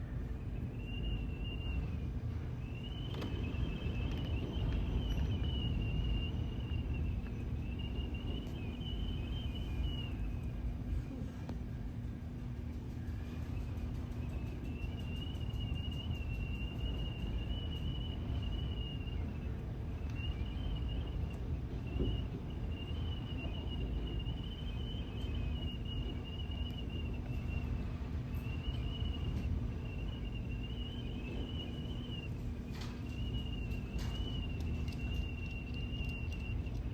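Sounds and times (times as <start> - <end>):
steady low hum: 0.0 - 36.9
wind rumbling on microphone: 0.0 - 36.9
high wavering whistle: 0.1 - 10.7, 13.0 - 36.9.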